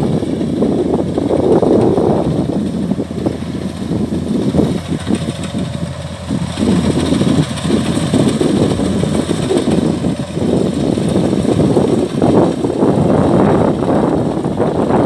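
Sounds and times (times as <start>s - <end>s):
combine harvester diesel engine: 0.0s - 15.0s.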